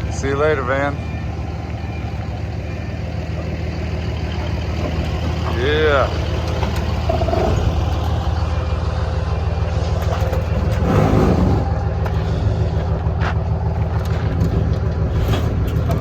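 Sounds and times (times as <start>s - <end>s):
large vehicle engine idling: 0.0s - 16.0s.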